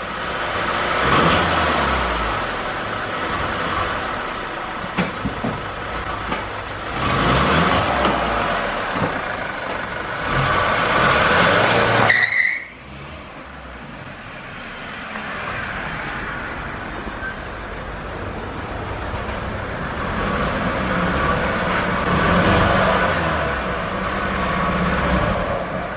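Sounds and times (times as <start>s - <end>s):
pickup truck engine accelerating: 0.0s - 14.3s, 19.4s - 25.9s
road noise: 0.0s - 25.9s.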